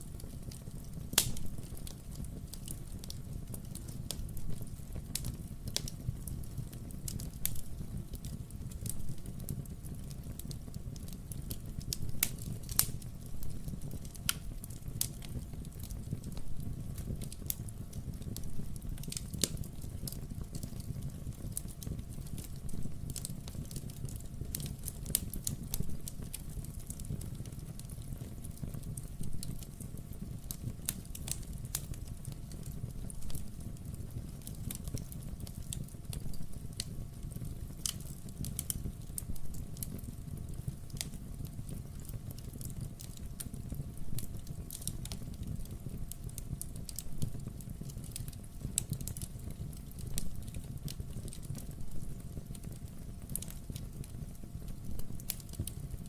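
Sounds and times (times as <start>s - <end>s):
logs popping and crackling: 0.1s - 56.0s.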